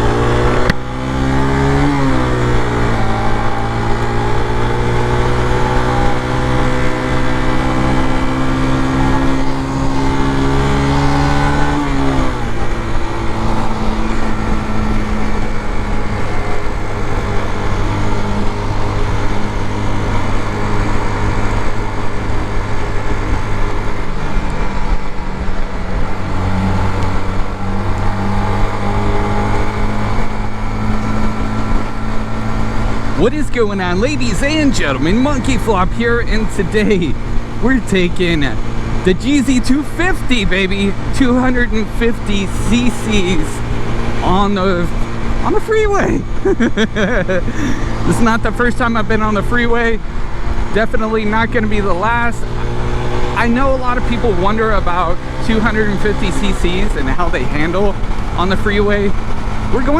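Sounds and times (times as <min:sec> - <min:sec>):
motorcycle engine pulling under load: 0:00.0 - 0:41.6, 0:42.4 - 0:59.9.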